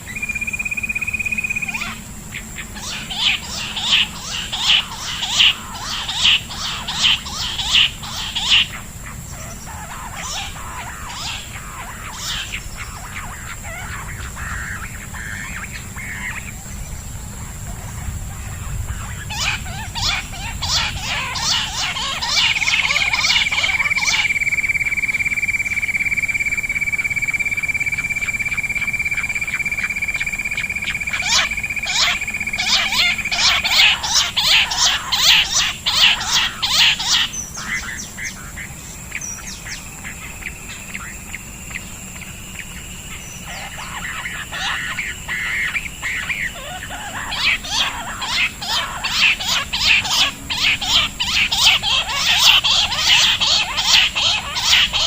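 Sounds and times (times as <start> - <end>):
birds calling sharply: 0.0 - 55.0
steady high whistling tone: 0.0 - 55.0.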